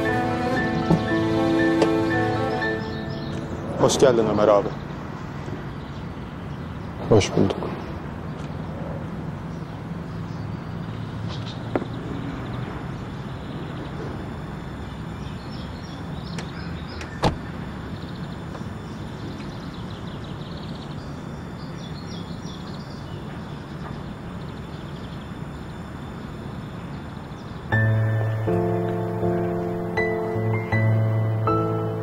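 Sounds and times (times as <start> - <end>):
bird chirps: 0.0 - 8.4, 9.5 - 32.0
vehicles rumbling: 0.0 - 32.0.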